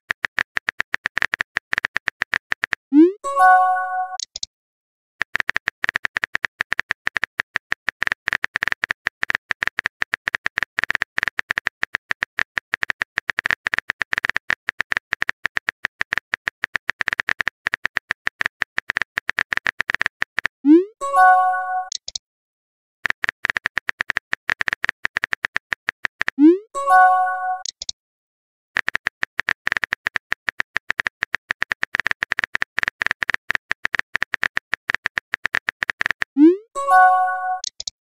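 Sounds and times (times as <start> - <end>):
phone keyboard typing clicks: 0.1 - 2.8, 3.5 - 4.5, 5.2 - 20.6, 21.2 - 22.2, 23.0 - 28.0, 28.8 - 38.0.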